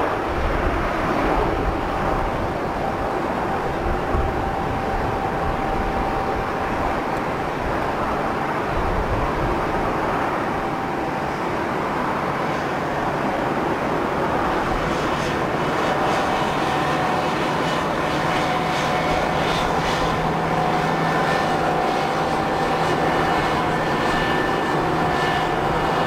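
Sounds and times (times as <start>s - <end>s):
jet engines roaring: 0.0s - 26.0s
low hum: 0.4s - 26.0s.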